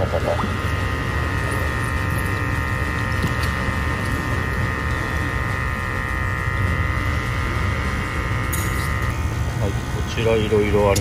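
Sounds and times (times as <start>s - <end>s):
high-pitched whine: 0.0s - 11.0s
machinery hum: 0.0s - 11.0s.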